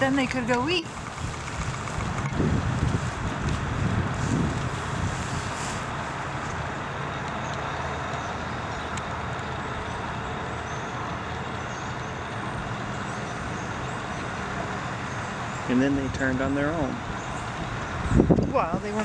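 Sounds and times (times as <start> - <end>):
outdoor rumble and hiss: 0.0 - 19.0.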